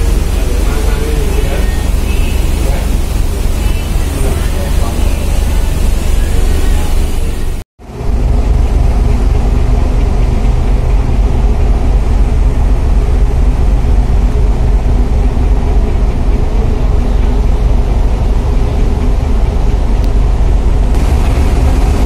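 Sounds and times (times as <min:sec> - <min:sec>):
sea noise: 0:00.0 - 0:22.0
ship engine drone: 0:00.0 - 0:22.0
wind: 0:00.0 - 0:22.0.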